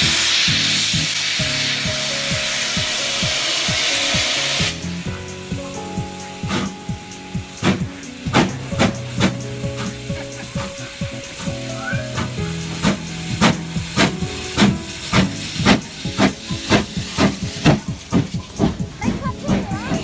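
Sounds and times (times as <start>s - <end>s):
quiet music: 0.0s - 20.0s
steam hissing: 0.0s - 20.0s
steam locomotive chuffing: 0.0s - 20.0s.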